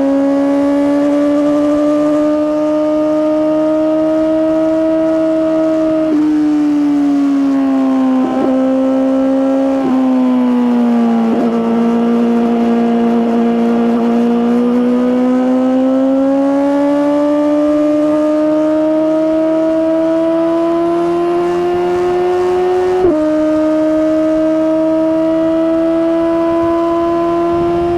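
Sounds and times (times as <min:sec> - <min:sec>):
motorcycle engine accelerating: 0:00.0 - 0:27.9.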